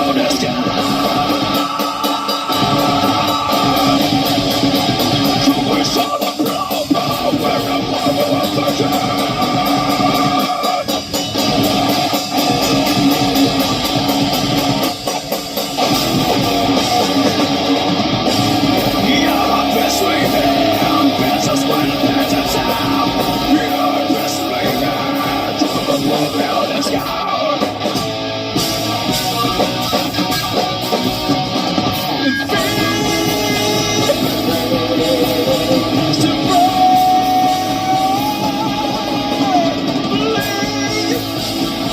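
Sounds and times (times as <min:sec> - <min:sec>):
electric guitar: 0:00.0 - 0:41.9
rock band playing: 0:00.0 - 0:41.9.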